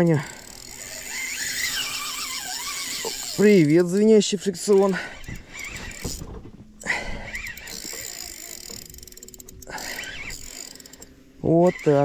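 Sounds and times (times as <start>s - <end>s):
fishing reel drag buzzing: 0.0s - 6.2s, 6.8s - 12.0s.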